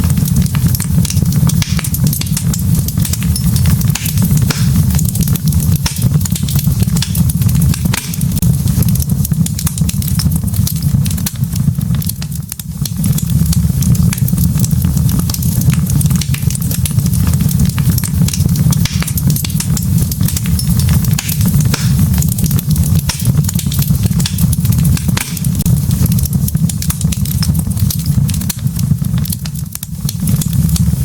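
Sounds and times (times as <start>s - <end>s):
burning logs crackling and popping: 0.0s - 31.0s
low rumble of flame: 0.0s - 31.0s.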